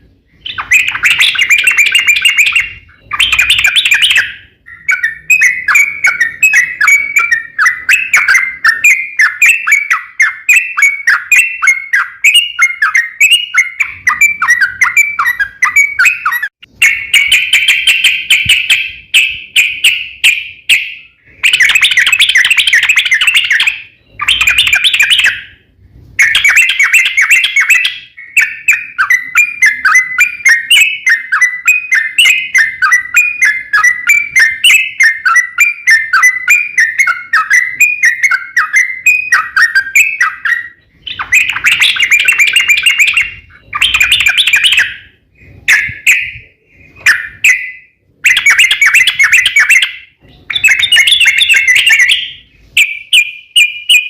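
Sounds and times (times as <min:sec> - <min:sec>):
bird singing chattering phrases: 0:00.4 - 0:25.5, 0:26.2 - 0:54.0.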